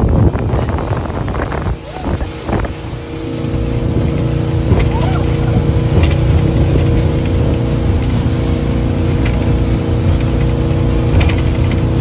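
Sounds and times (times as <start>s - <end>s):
rush of wind and water: 0.0s - 12.0s
speedboat engine drone: 0.0s - 12.0s.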